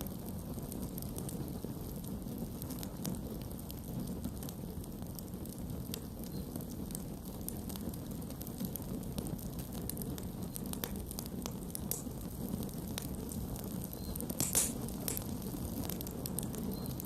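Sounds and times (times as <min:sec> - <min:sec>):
burning wood crackling: 0:00.0 - 0:17.0
campfire flame rumble: 0:00.0 - 0:17.0.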